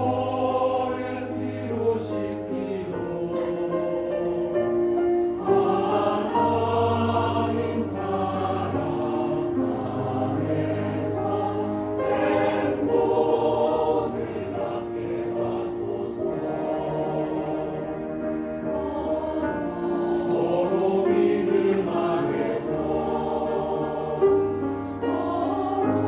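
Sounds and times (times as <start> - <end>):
mixed choir singing a hymn: 0.0 - 26.0
piano: 0.0 - 26.0.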